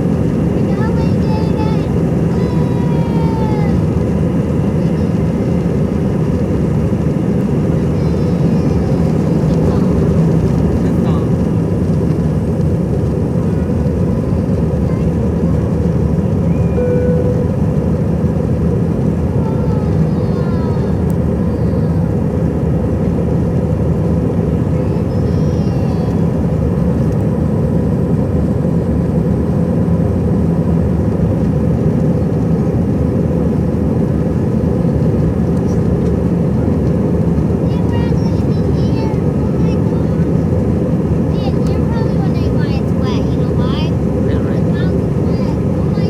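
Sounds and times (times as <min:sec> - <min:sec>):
jet engines at takeoff thrust: 0:00.0 - 0:46.0.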